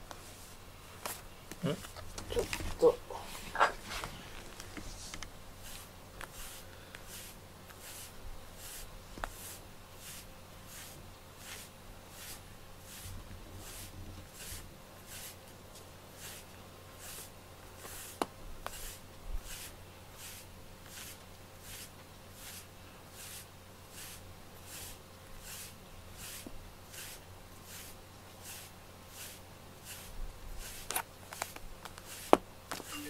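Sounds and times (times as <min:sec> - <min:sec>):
brush swishing through fur: 0:00.1 - 0:33.0.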